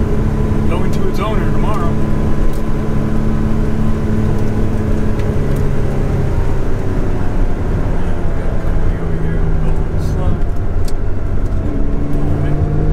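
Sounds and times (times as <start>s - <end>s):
car engine running: 0.0s - 12.9s
road noise: 0.0s - 12.9s.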